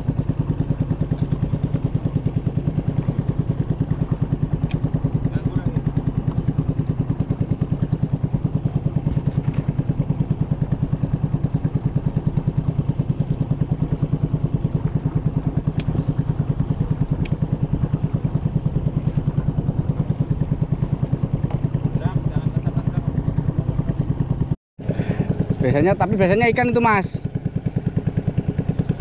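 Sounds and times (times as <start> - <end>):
boat engine chugging: 0.0 - 29.0.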